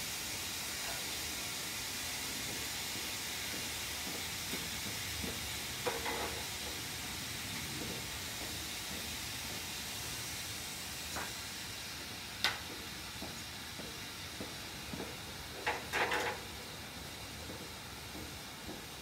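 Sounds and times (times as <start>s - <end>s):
ice hissing under hot metal: 0.0s - 19.0s.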